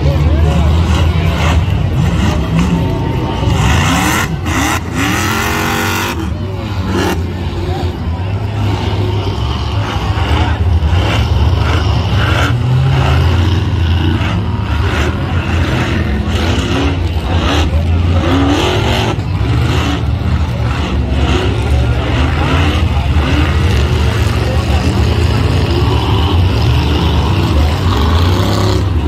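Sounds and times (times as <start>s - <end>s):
crowd chatter: 0.0s - 29.0s
off-road vehicle engines droning: 0.0s - 29.0s.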